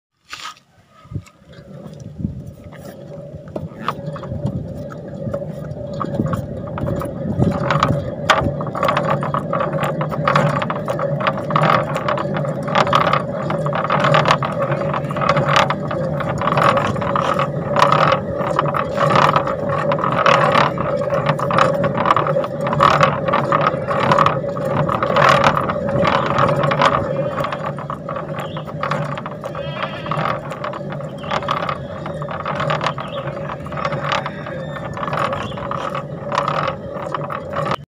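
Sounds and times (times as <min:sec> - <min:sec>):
wheel bearing buzzing and grinding: 0:00.3 - 0:37.9.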